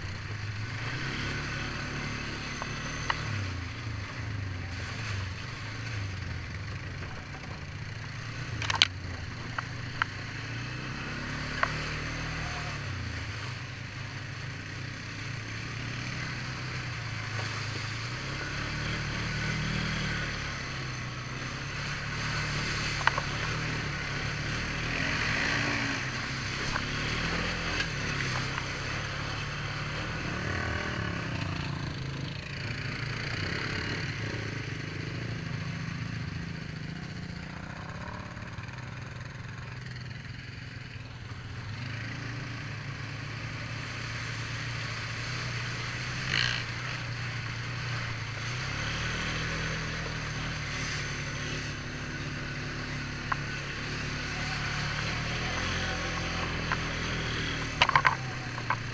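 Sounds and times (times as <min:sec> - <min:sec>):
quad engine running: 0:00.0 - 0:58.9.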